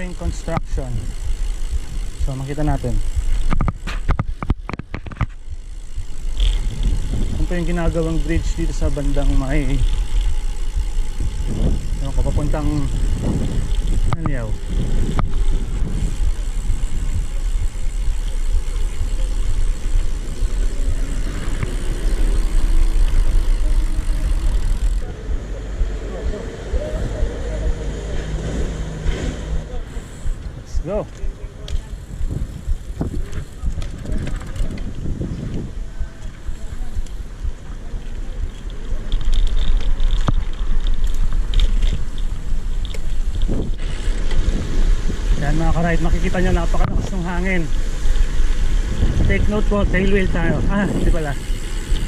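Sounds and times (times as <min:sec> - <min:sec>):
road noise: 0:00.0 - 0:52.0
wind buffeting microphone: 0:00.0 - 0:52.0.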